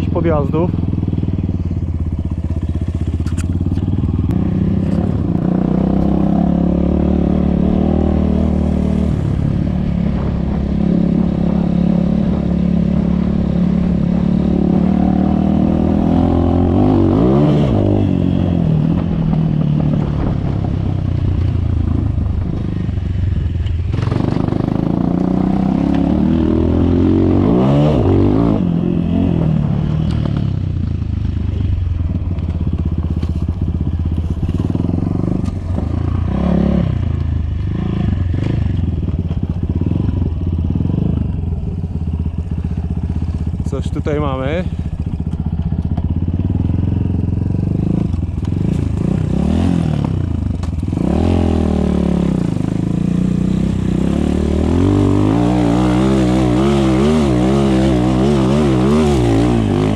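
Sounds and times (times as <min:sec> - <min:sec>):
dirt bike engine revving: 0:00.0 - 0:20.6, 0:21.2 - 0:33.4, 0:34.2 - 0:59.9.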